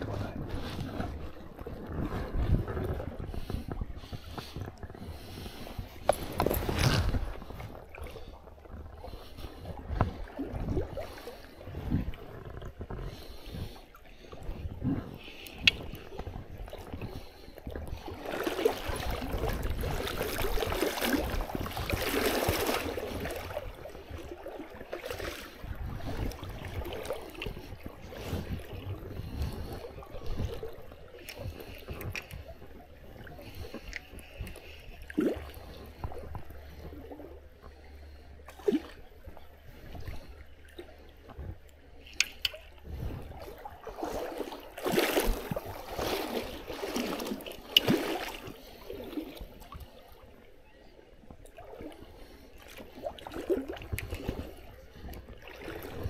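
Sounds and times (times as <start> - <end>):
river water splashing: 0.0 - 50.4, 51.4 - 56.0.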